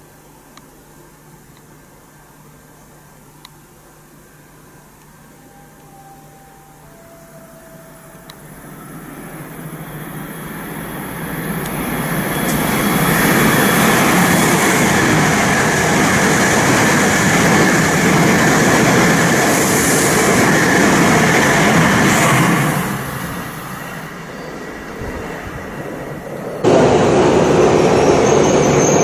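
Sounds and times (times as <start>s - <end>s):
train rumbling past: 5.3s - 29.0s.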